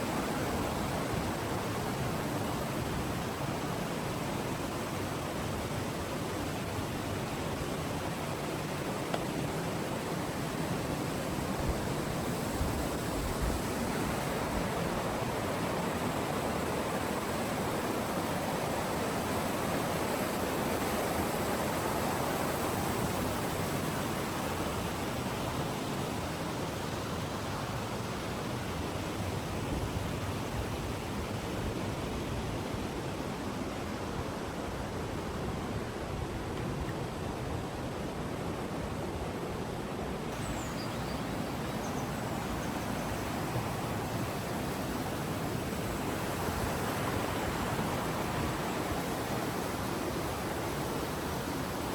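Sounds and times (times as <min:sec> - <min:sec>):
stream water rushing over rocks: 0:00.0 - 0:51.9.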